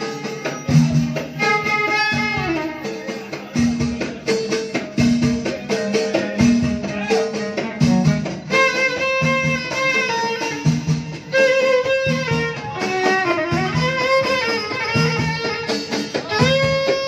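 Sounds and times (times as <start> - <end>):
violin melody with sliding notes: 0.0 - 3.6, 6.8 - 17.0
hand frame drums beat: 0.0 - 17.0.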